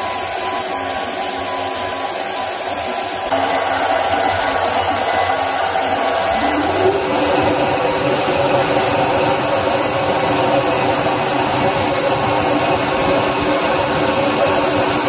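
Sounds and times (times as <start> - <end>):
air assist hissing: 0.0 - 15.0
laser cutter humming: 0.0 - 15.0.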